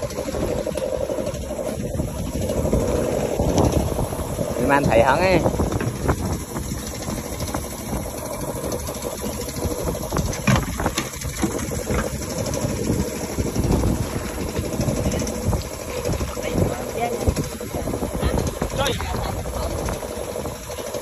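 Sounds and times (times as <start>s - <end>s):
small boat engine idling: 0.0s - 21.0s.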